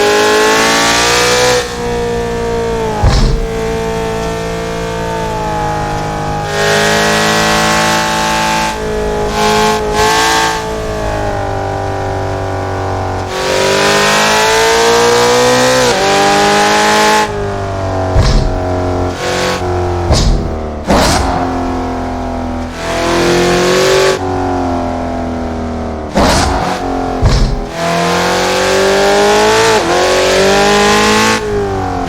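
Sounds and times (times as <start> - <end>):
car engine revving through gears: 0.0 - 32.0.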